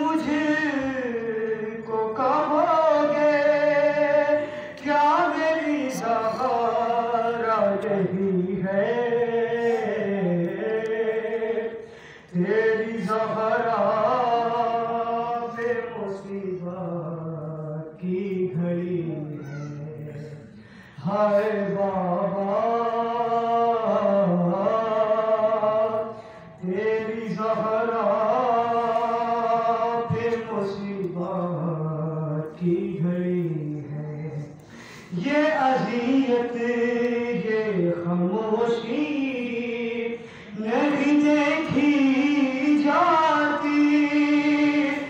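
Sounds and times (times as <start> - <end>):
man chanting into a microphone: 0.0 - 45.0.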